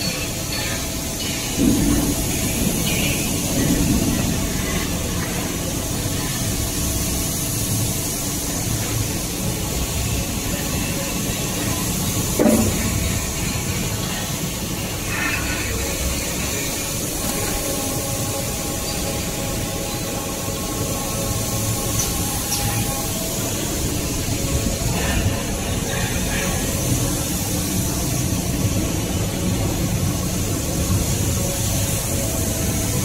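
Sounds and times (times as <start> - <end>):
paper machinery running: 0.0 - 33.0.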